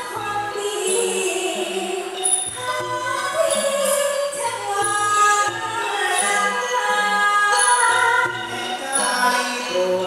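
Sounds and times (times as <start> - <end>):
instrumental accompaniment: 0.0 - 10.0
woman singing into microphone: 0.0 - 10.0.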